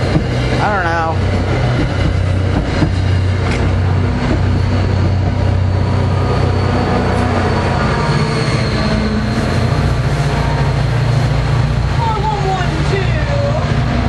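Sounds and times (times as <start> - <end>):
diesel train engine drone: 0.0 - 14.0
rail noise: 0.0 - 14.0.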